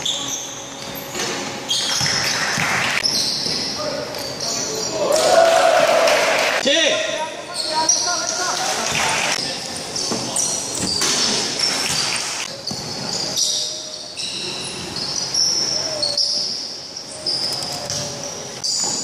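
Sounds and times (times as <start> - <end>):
sneakers squeaking on hardwood: 0.0 - 5.0, 7.5 - 19.0.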